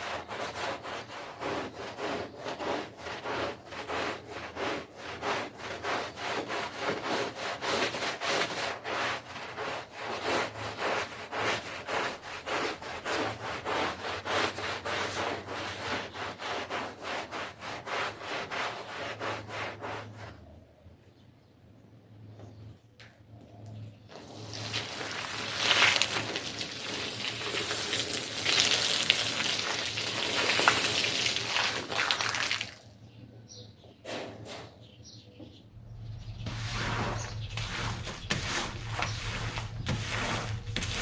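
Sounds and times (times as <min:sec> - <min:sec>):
stiff brush scrubbing wet carpet: 0:00.0 - 0:20.5, 0:24.1 - 0:32.8, 0:36.2 - 0:41.0.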